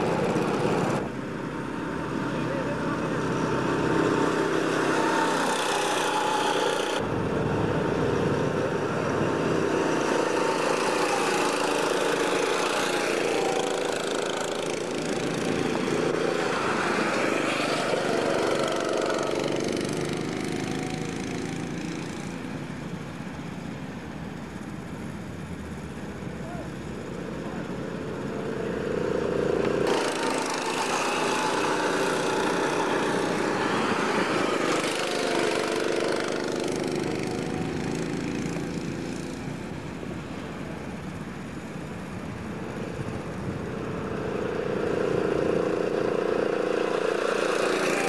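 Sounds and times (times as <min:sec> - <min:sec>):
miniature car engine: 0:00.0 - 0:48.0.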